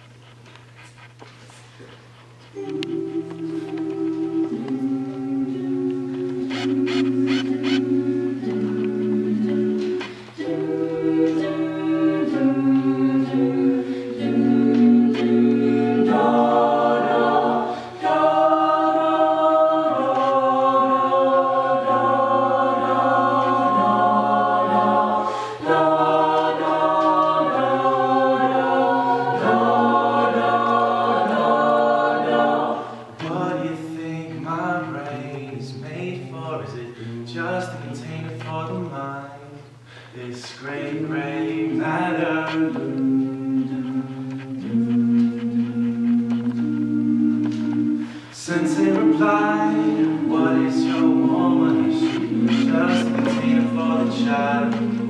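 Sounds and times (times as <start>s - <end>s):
a cappella group singing in harmony: 2.5s - 55.0s.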